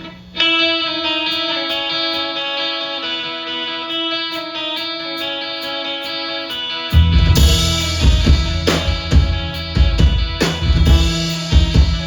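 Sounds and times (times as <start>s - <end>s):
electric guitar chord ringing: 0.0s - 12.0s.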